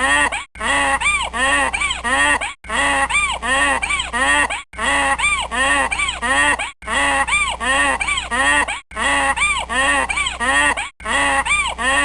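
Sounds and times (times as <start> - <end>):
donkey braying: 0.0 - 12.0.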